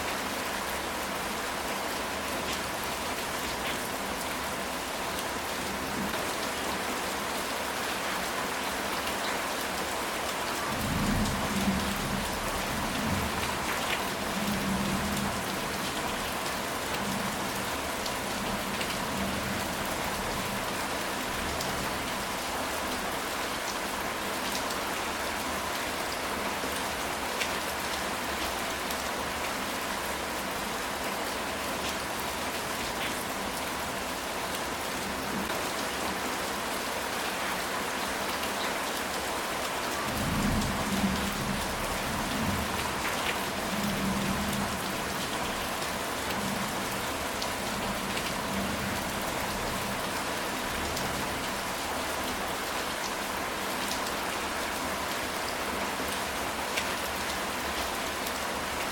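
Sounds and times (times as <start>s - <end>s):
rain on a tile roof: 0.0s - 58.9s.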